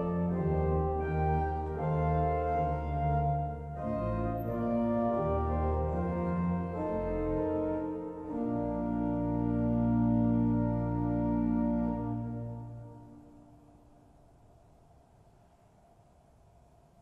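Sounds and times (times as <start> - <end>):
pipe organ chords: 0.0 - 13.8.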